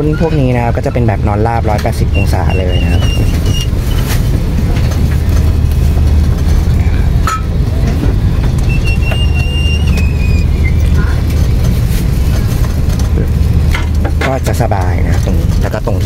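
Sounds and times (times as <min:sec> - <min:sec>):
airplane cabin hum: 0:00.0 - 0:16.0.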